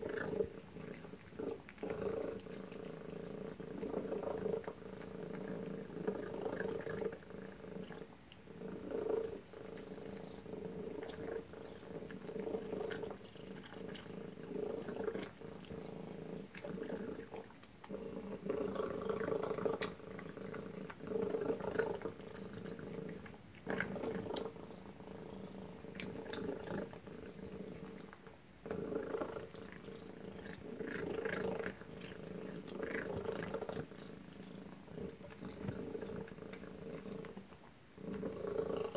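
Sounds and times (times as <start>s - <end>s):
cat chewing and lapping food: 0.0s - 38.9s.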